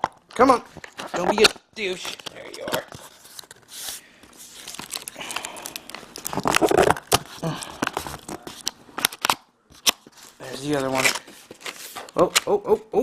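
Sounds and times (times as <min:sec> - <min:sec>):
packaging crinkling and tearing: 0:00.7 - 0:12.5.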